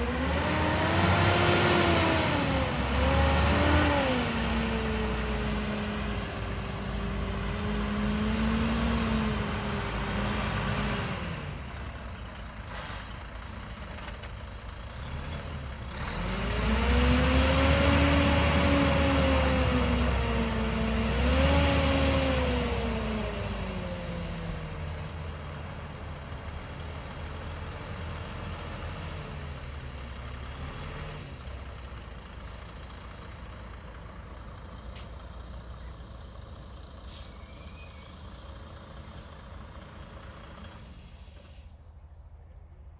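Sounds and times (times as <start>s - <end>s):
diesel lorry engine pulling away: 0.0s - 42.9s.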